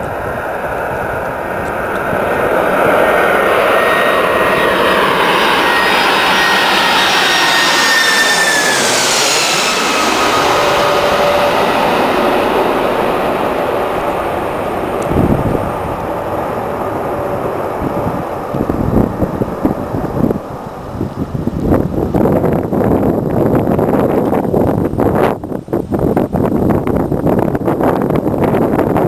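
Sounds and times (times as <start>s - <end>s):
jet engines roaring overhead: 0.0s - 29.0s.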